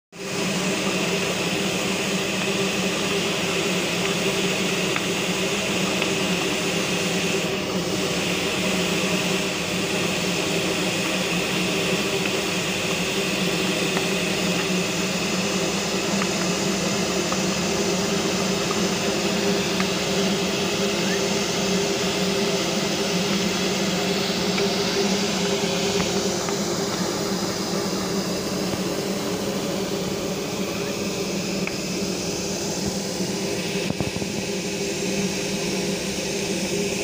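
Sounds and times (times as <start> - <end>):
steam hissing: 0.1 - 37.0
low even drone: 0.2 - 37.0.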